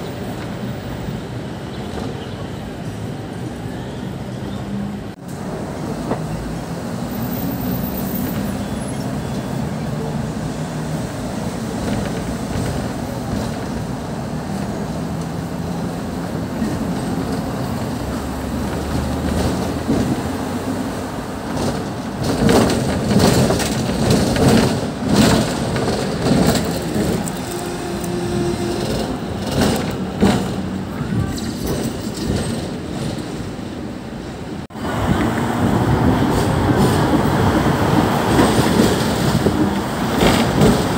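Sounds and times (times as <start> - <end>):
tram wheels rumbling on rails: 0.0 - 40.9.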